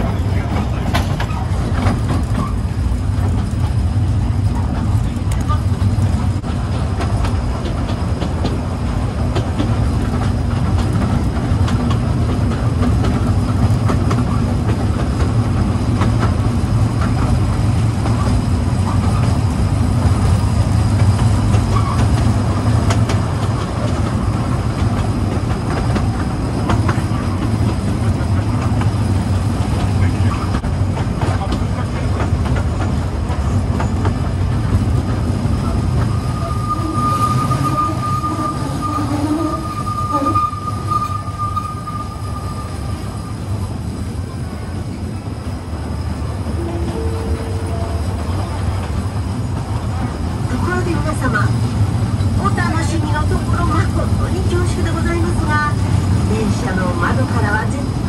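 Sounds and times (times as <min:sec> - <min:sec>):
rail-joint clicks: 0:00.0 - 0:58.0
train wheels rumbling: 0:00.0 - 0:58.0.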